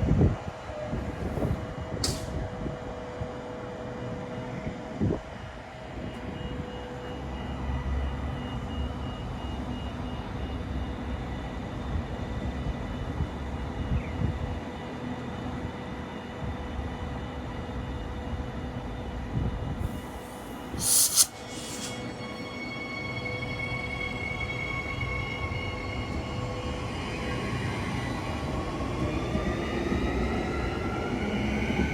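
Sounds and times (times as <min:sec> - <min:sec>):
electric train rumbling: 0:00.0 - 0:31.9.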